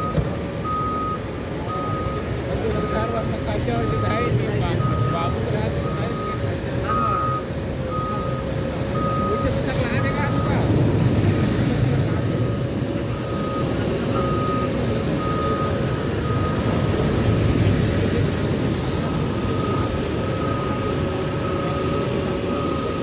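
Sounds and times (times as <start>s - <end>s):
reversing alarm beeps: 0.0s - 17.8s, 18.6s - 23.0s
diesel machinery running: 0.0s - 23.0s.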